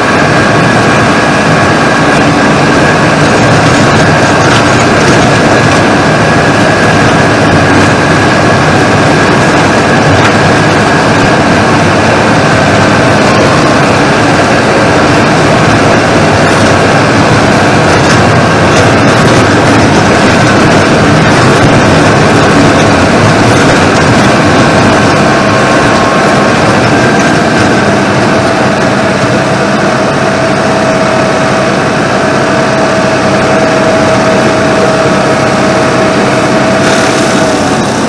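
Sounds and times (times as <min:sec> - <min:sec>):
mower head high whine: 0:00.0 - 0:38.0
tractor engine droning: 0:00.0 - 0:38.0.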